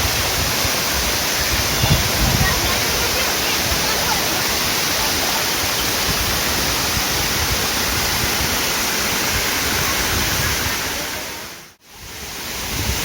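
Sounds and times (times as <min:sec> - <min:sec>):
waterfall pouring: 0:00.0 - 0:13.0.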